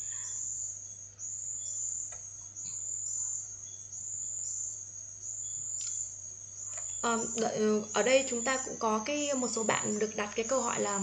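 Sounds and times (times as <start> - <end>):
faint low hum: 0.0 - 11.0
high-pitched insect trill: 0.0 - 11.0.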